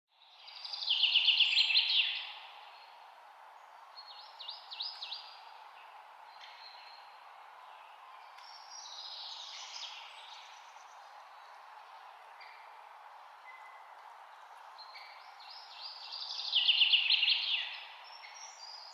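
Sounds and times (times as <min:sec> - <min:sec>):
songbirds singing: 0:00.2 - 0:18.9.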